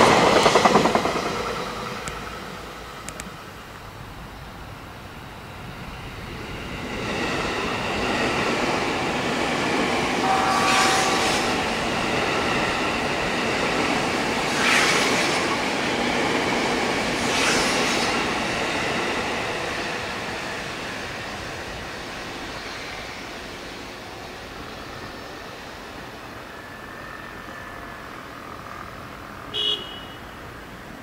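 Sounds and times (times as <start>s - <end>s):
train wheels rumbling: 0.0s - 4.4s, 5.2s - 27.2s.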